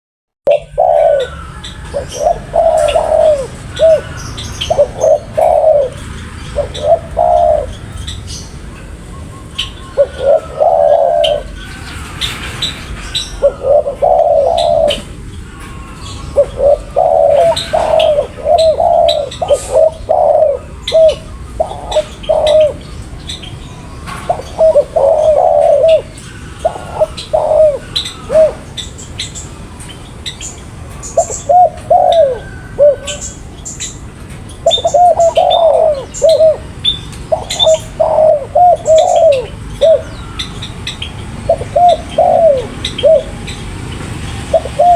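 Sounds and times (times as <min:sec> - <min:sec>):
dove cooing: 0:00.5 - 0:29.6, 0:30.4 - 0:44.9
small birds chirping: 0:00.5 - 0:44.9.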